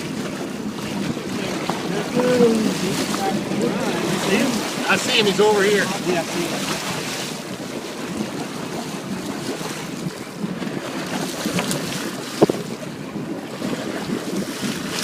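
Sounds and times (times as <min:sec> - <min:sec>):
sea washing around boat: 0:00.0 - 0:15.0
wind buffeting microphone: 0:00.0 - 0:15.0.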